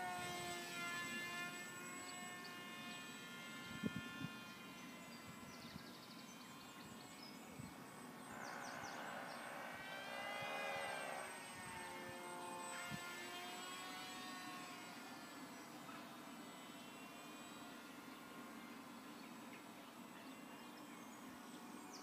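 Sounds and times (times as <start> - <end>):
model plane motor whining: 0.0 - 22.0.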